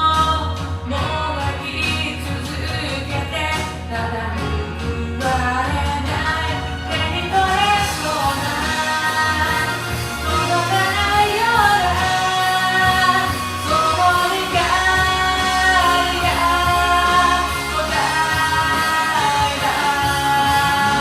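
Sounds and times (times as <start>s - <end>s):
karaoke backing track: 0.0s - 21.0s
woman singing pop ballad: 0.0s - 21.0s.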